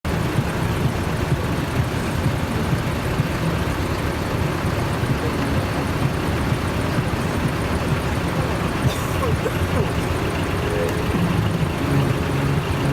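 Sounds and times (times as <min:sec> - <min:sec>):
diesel truck engines rumbling: 0:00.0 - 0:12.9.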